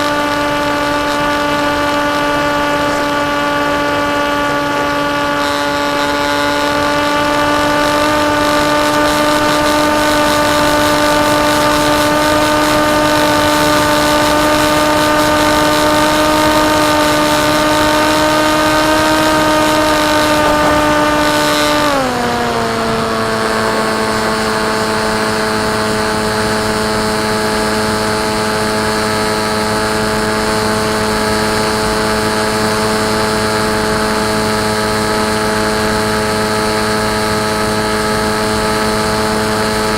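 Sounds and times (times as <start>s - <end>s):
electric motor propeller whine: 0.0s - 39.9s.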